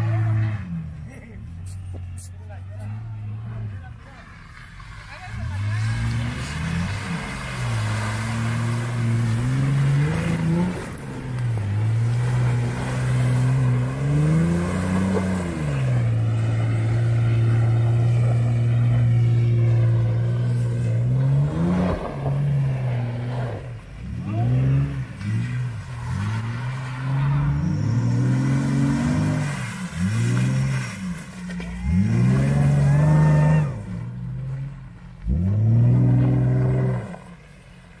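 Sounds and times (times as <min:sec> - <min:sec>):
truck engine revving: 0:00.0 - 0:37.4.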